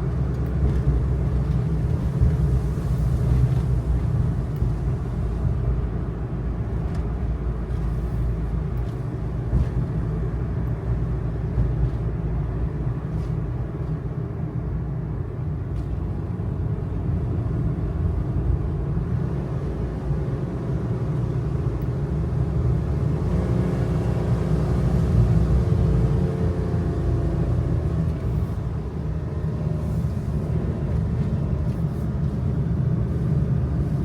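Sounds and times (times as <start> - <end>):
road rumble: 0.0 - 34.0.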